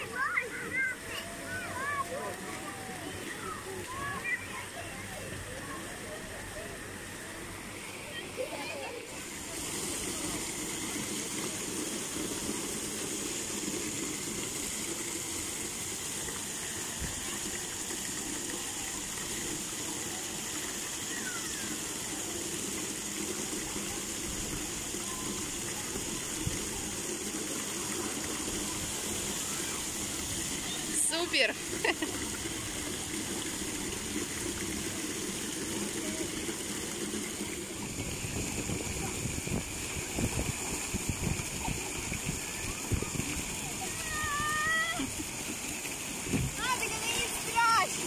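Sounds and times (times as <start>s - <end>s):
water gushing and splashing into pool: 0.0s - 48.0s.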